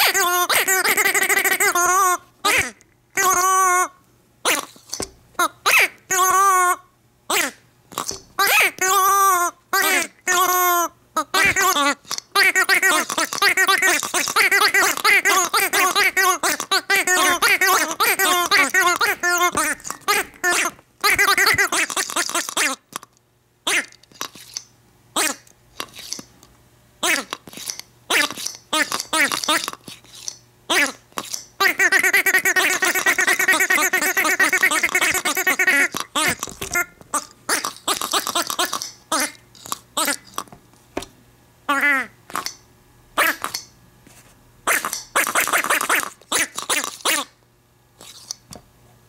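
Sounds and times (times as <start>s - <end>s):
squeeze toys squeaking: 0.0s - 23.0s, 23.7s - 26.3s, 27.0s - 40.4s, 43.2s - 43.7s, 44.6s - 47.4s, 48.0s - 48.4s.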